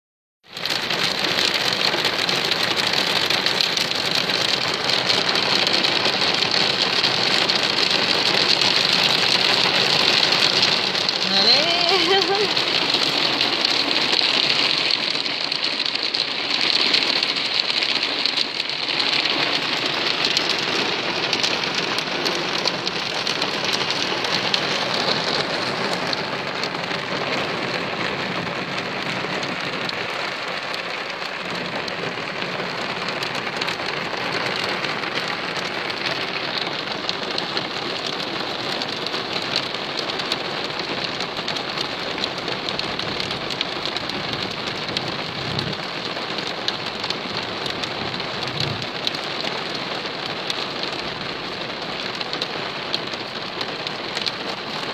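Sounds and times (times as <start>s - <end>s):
hail and rain on car roof: 0.5s - 54.9s.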